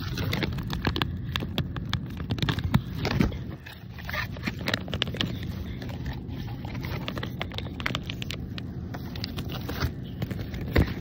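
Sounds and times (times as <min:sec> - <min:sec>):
plastic packet clicks and rustles: 0:00.0 - 0:11.0
steady low hum: 0:00.0 - 0:11.0.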